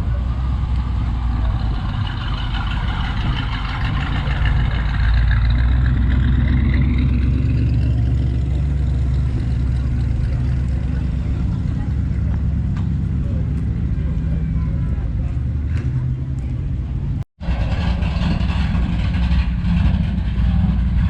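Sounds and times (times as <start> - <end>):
car engine humming: 0.0 - 17.2.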